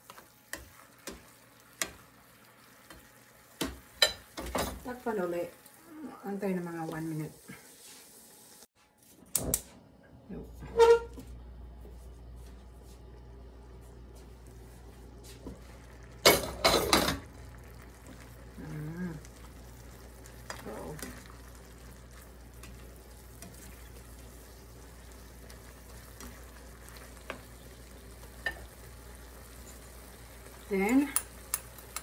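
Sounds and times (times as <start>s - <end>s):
food sizzling: 0.0s - 8.8s, 14.0s - 32.0s.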